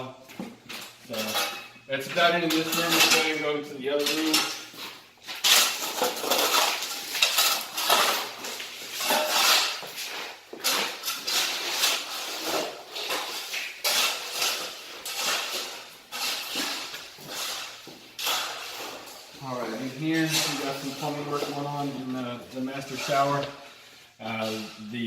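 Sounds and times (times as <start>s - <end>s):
tools clanking and scraping: 0.3s - 24.8s.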